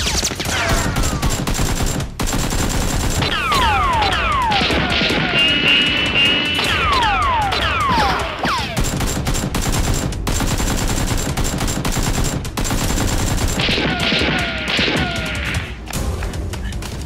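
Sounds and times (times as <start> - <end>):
rapid automatic gunfire: 0.0 - 15.7.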